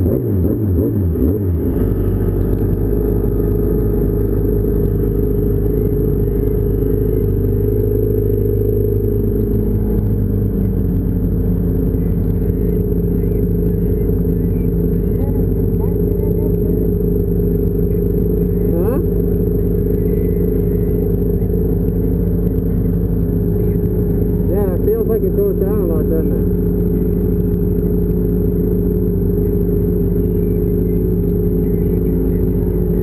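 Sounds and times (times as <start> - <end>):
snowmobile engine idling: 0.0 - 33.0.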